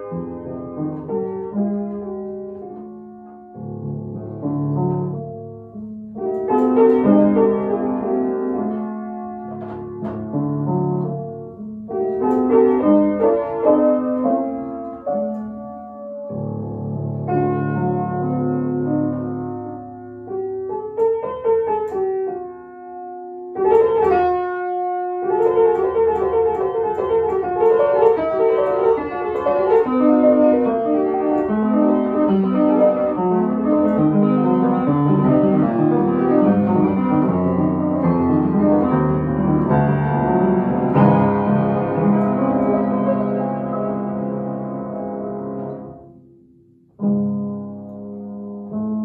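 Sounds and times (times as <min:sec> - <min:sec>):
classical piano piece: 0:00.0 - 0:49.0.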